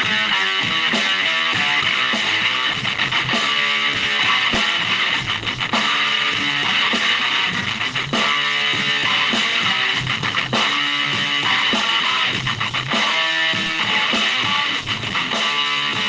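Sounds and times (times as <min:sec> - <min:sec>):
strummed electric guitar music: 0:00.0 - 0:16.0.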